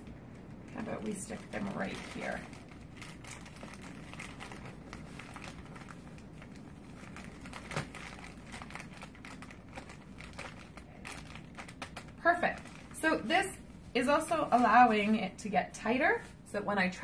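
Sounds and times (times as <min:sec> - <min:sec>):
plastic packaging crinkling: 0:00.0 - 0:15.5.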